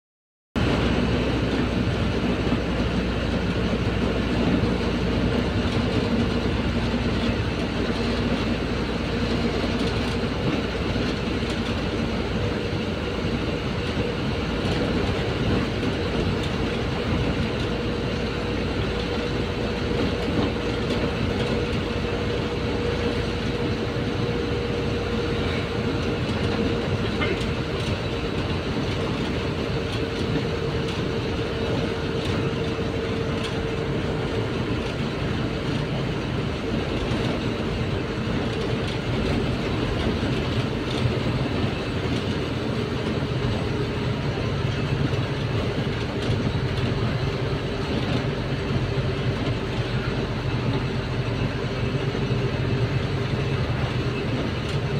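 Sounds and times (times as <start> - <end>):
bus engine drone: 0.6 - 54.9
road noise: 0.6 - 54.9.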